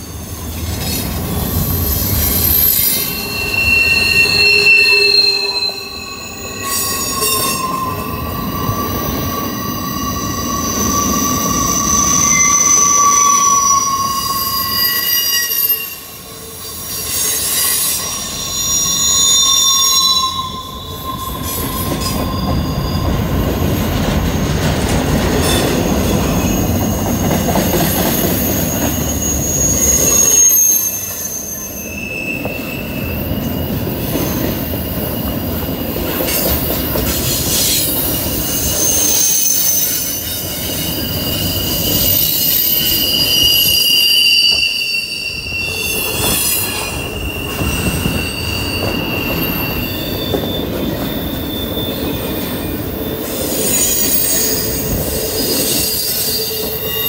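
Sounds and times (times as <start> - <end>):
train wheels rumbling on rail: 0.0 - 57.0
wheel squeal: 0.3 - 24.5, 25.4 - 57.0.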